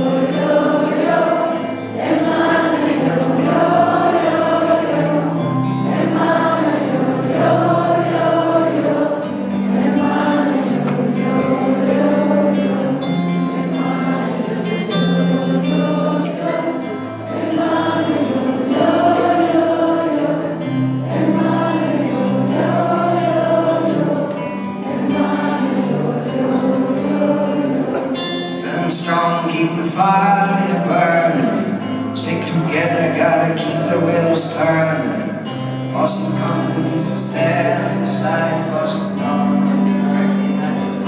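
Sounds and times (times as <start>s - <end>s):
voices singing held notes: 0.0s - 41.0s.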